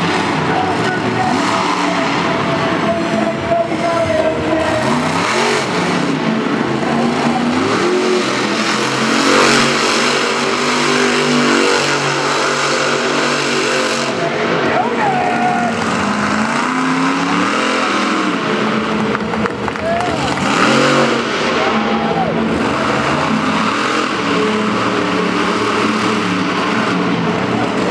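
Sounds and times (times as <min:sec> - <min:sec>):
monster truck engine revving: 0:00.0 - 0:27.9.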